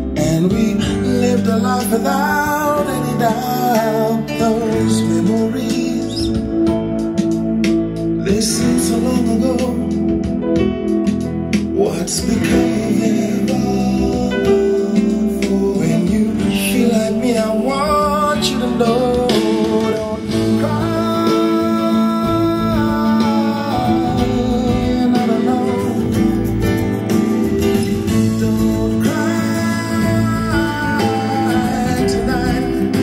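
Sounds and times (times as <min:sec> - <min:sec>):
person singing: 0:00.0 - 0:07.4, 0:08.0 - 0:33.0
guitar: 0:00.0 - 0:33.0.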